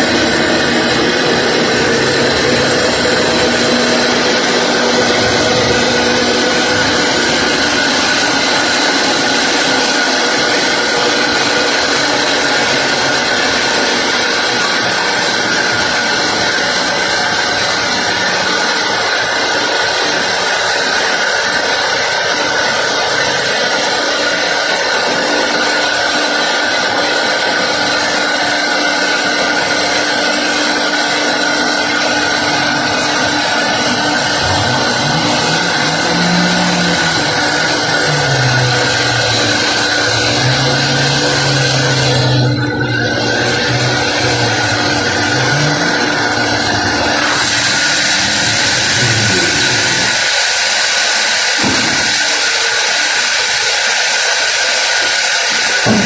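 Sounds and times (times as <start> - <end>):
held whining tones: 0.0 - 26.1, 26.7 - 50.4
sawmill machinery sawing wood: 0.0 - 56.0.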